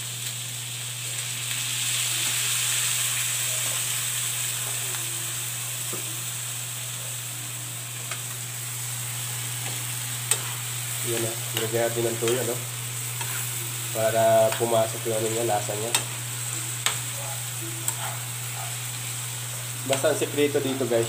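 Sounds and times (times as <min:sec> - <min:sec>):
meat and onions sizzling in a pan: 0:00.0 - 0:21.0.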